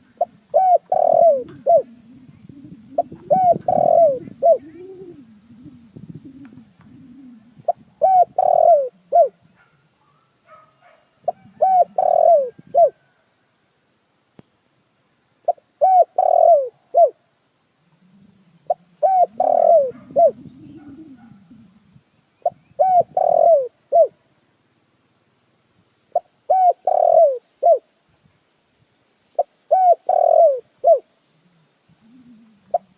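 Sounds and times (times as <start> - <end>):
dove cooing: 0.0 - 13.2, 15.4 - 24.3, 26.1 - 27.9, 29.4 - 32.9.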